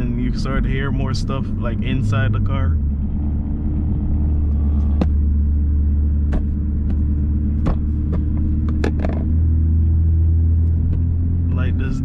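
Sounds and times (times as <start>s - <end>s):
low exhaust drone: 0.0s - 12.0s.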